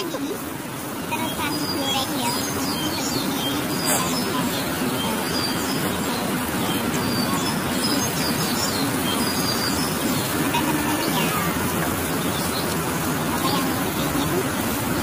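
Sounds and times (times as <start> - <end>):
small birds chirping: 0.0 - 15.0
traffic rumble: 0.0 - 15.0.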